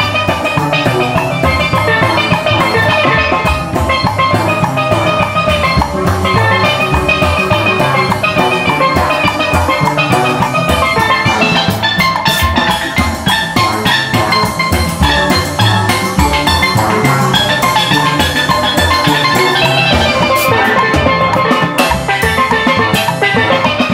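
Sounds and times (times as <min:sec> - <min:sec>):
drum kit steady beat: 0:00.0 - 0:23.9
quick bright melody notes: 0:00.0 - 0:23.9.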